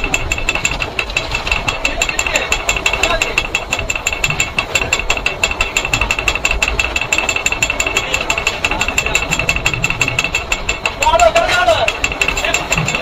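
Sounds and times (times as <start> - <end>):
high pulsing ringing tone: 0.0 - 13.0
rapid mechanical knocking: 0.0 - 13.0.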